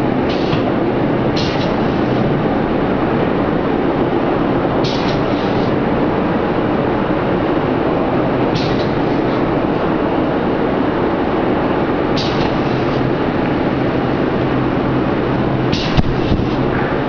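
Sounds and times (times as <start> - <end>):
roller machine running: 0.0 - 17.0.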